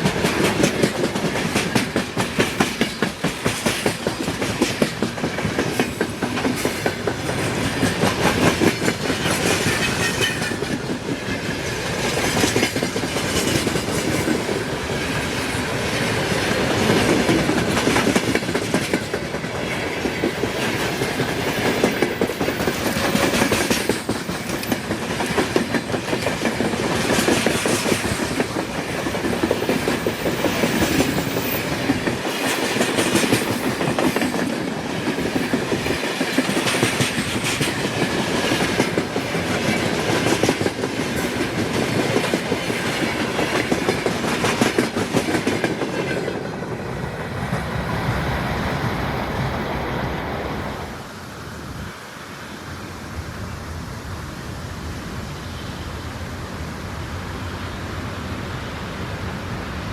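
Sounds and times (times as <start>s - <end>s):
train wheels clattering on track: 0.0s - 49.5s.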